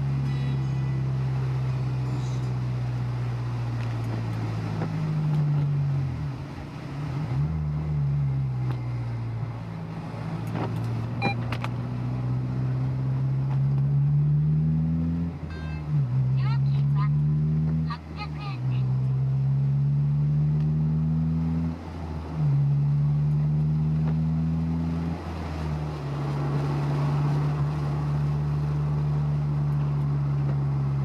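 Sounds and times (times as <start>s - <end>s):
car engine cruising: 0.0s - 31.0s.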